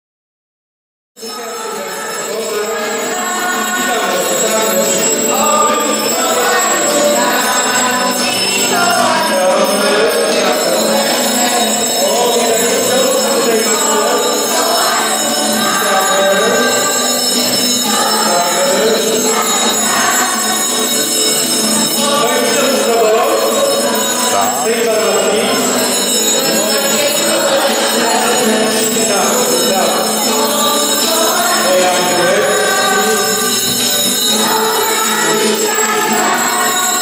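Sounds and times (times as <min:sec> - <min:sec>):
crowd singing together: 0:01.2 - 0:37.0
small bells shaking: 0:01.3 - 0:37.0.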